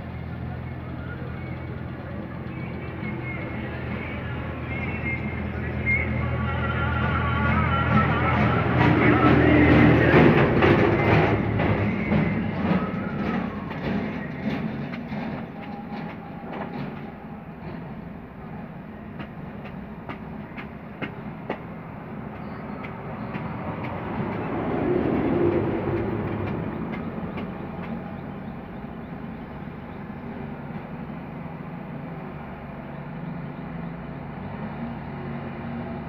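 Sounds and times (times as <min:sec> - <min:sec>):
rumbling background noise: 0:00.0 - 0:36.0.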